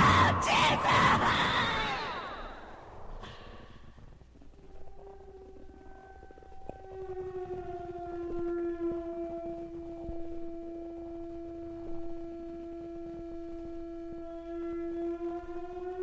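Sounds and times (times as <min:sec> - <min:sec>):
siren-like droning tone: 0:00.0 - 0:16.0.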